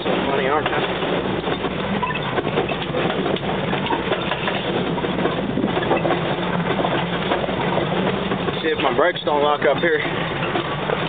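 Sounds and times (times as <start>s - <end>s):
truck body rattles and knocks: 0.0s - 11.0s
truck engine running: 0.0s - 11.0s.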